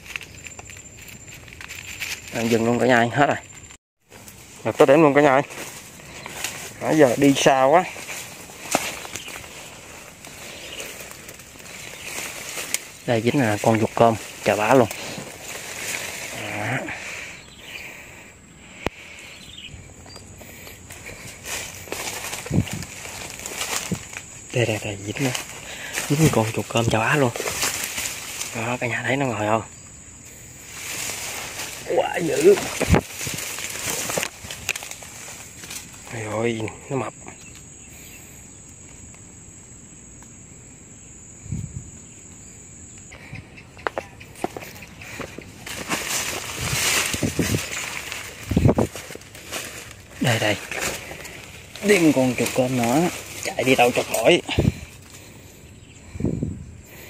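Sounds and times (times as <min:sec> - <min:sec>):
brush rustling: 0:00.0 - 0:39.3, 0:43.0 - 0:55.8
insect trilling: 0:00.0 - 0:57.0.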